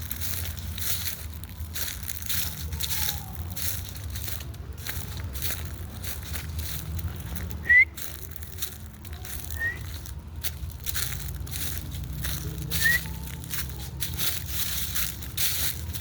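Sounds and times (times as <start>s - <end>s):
dry leaves rustling and crunching: 0.0s - 16.0s.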